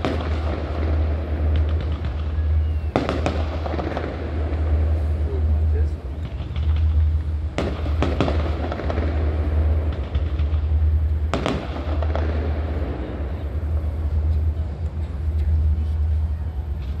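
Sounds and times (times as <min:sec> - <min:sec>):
fireworks exploding: 0:00.0 - 0:17.0
low rumble: 0:00.0 - 0:17.0.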